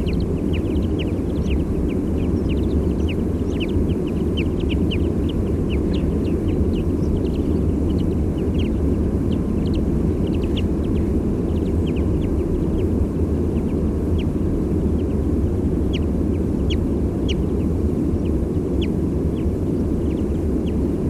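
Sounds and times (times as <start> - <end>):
distant sea surf rumble: 0.0 - 21.0
high bird flight calls: 0.0 - 21.0.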